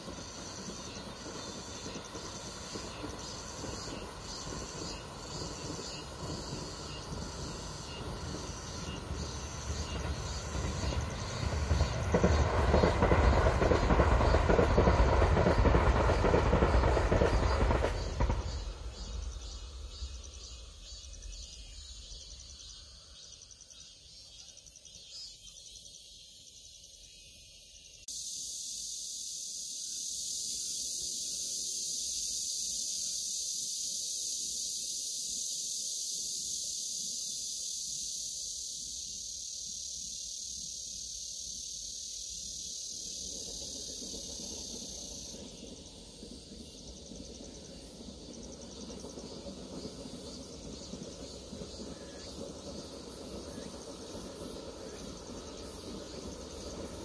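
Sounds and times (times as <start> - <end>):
electric train passing: 0.0 - 27.2, 28.2 - 57.0
insects buzzing high-pitched: 0.0 - 57.0.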